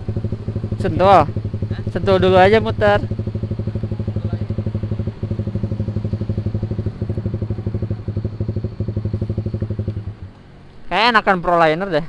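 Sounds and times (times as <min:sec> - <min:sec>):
motorcycle engine idling: 0:00.0 - 0:10.7.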